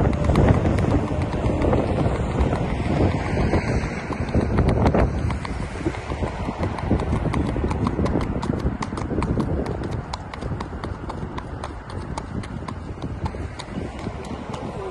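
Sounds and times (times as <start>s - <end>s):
horse hooves on concrete: 0.0s - 14.9s
steady low rumble: 0.0s - 14.9s.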